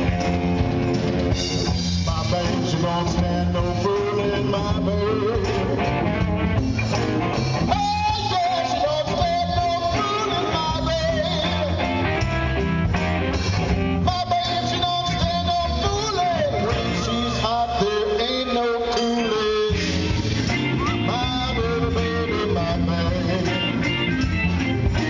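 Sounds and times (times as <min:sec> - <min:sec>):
bending lead guitar melody: 0:00.0 - 0:25.0
blues-rock band playing: 0:00.0 - 0:25.0.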